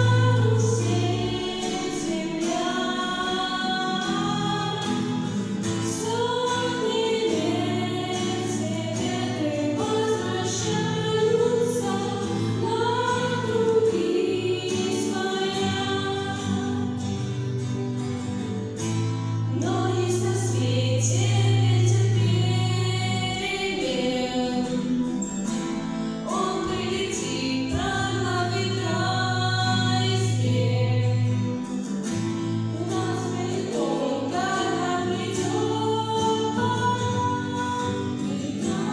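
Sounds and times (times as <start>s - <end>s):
person singing: 0.0s - 17.0s, 19.5s - 25.6s, 26.2s - 31.6s, 32.8s - 38.9s.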